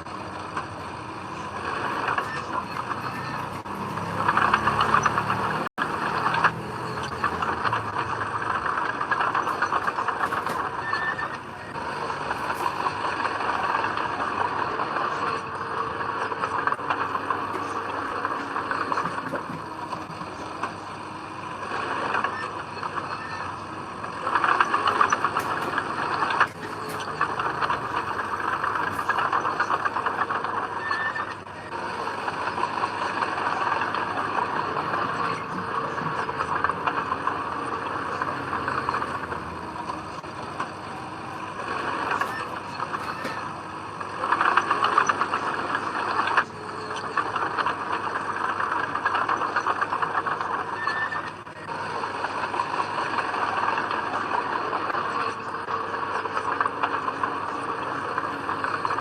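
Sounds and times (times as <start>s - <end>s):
heavy machinery clattering: 0.0s - 59.0s.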